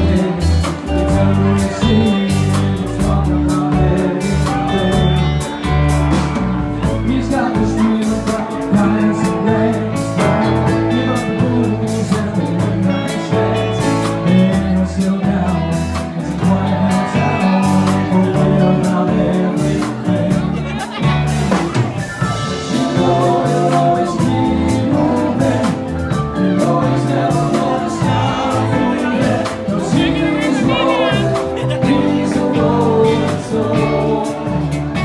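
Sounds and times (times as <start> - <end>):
person singing: 0.0 - 6.2, 6.8 - 35.0
drums: 0.0 - 35.0
electric guitar: 0.0 - 35.0.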